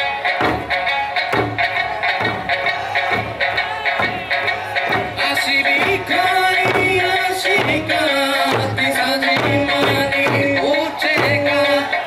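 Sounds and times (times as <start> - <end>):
drum-dance music melody: 0.0 - 12.0
taiko drums struck together: 0.3 - 11.7.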